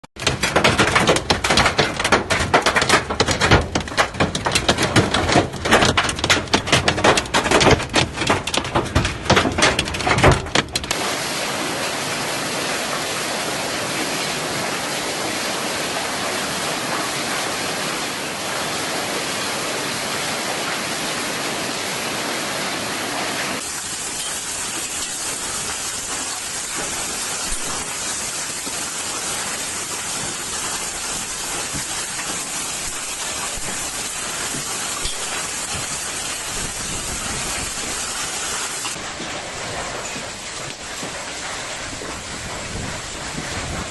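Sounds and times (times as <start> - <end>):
heavy rain pouring: 0.0 - 43.9
hailstones pelting hard surfaces: 0.2 - 21.1, 23.4 - 43.9.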